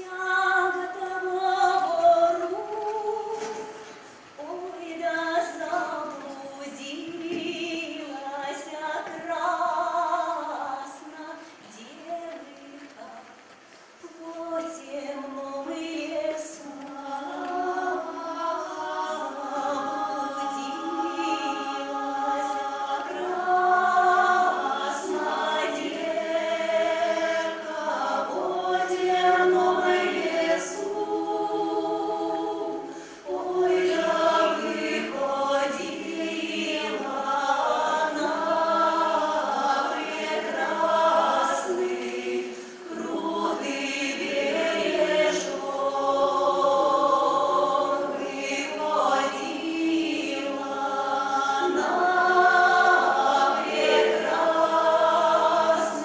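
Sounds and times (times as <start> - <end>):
choir singing in harmony: 0.0 - 11.5, 14.1 - 56.0
women singing: 0.0 - 13.4, 14.0 - 56.0.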